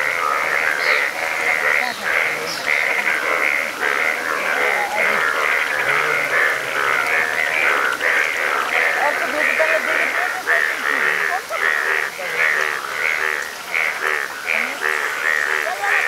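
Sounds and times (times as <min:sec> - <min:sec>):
chorus of frogs calling: 0:00.0 - 0:16.0.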